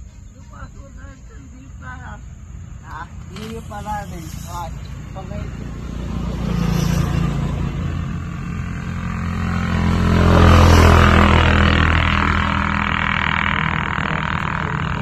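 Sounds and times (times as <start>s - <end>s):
vehicle engine passing by: 1.6s - 15.0s.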